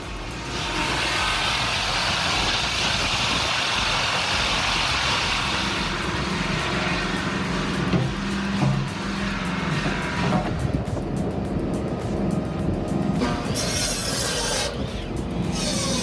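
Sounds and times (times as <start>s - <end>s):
loud rushing hiss: 0.0s - 16.0s
low engine rumble: 0.0s - 16.0s.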